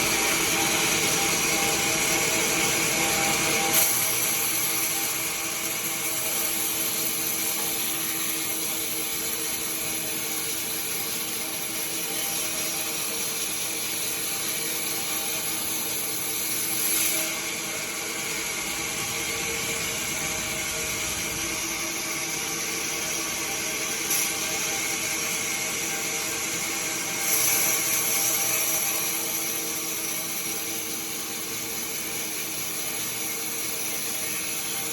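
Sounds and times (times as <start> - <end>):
sawmill machinery humming: 0.0 - 32.7
high-pitched machine whine: 0.0 - 34.9.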